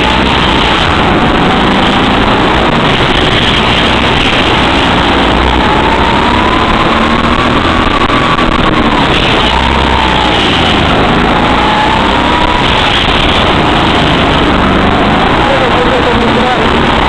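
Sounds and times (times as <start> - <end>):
go-kart engine racing: 0.0 - 17.0.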